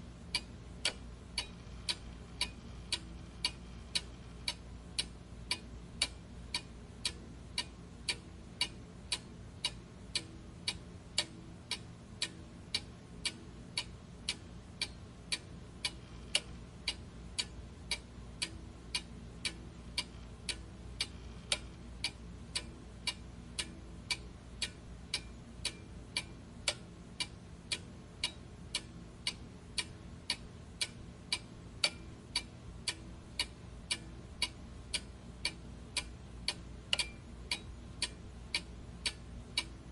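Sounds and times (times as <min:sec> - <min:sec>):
faint low hum: 0:00.0 - 0:39.9
regular ticking: 0:00.0 - 0:39.9.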